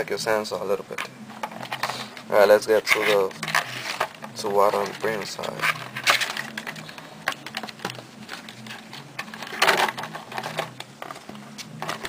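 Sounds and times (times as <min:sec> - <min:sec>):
faint low hum: 0:00.0 - 0:12.0
plastic rustling: 0:01.4 - 0:12.0.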